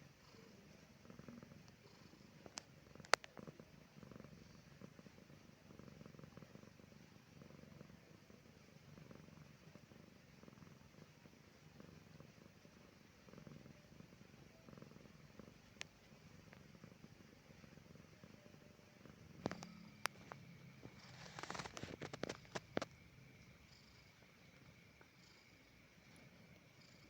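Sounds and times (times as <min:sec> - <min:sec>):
cat purring faintly: 0:00.0 - 0:27.0.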